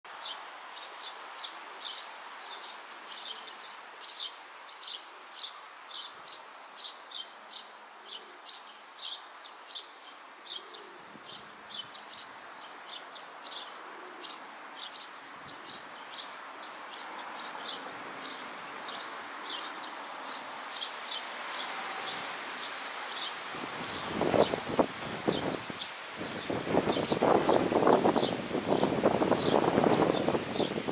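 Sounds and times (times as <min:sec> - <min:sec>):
low steady background hiss: 0:00.1 - 0:30.9
sparrows chirping: 0:00.2 - 0:30.9.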